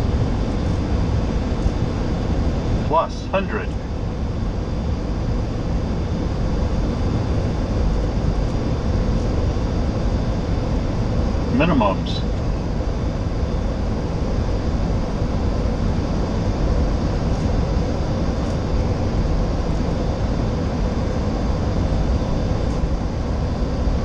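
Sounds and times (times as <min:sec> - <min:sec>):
aircraft engine noise: 0:00.0 - 0:24.0
airflow rushing in cockpit: 0:00.0 - 0:24.0
faint steady hum: 0:00.0 - 0:24.0.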